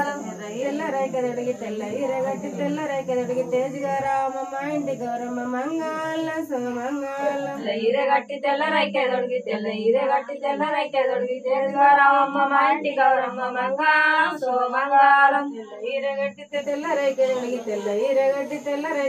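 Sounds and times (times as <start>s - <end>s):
women singing devotional song: 0.0s - 19.0s.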